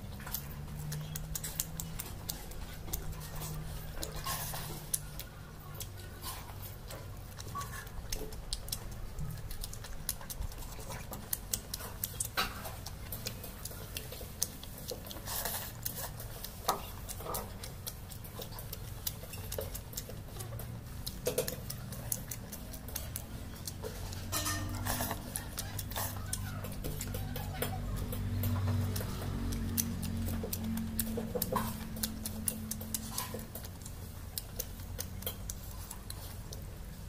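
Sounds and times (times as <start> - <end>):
chewing and lip smacking: 0.0 - 37.0
steady low hum: 0.0 - 37.0.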